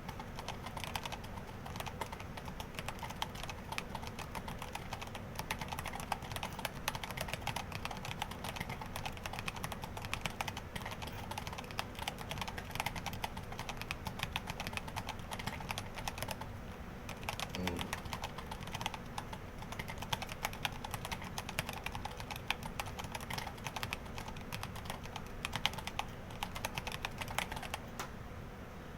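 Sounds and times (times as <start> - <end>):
fast typing on mechanical keyboard: 0.0 - 16.5, 17.1 - 27.9.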